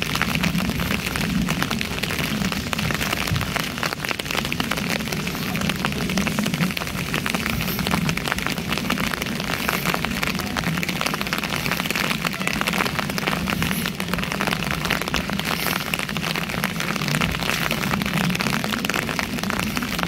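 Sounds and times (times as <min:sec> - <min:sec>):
rain on asphalt road: 0:00.0 - 0:20.0.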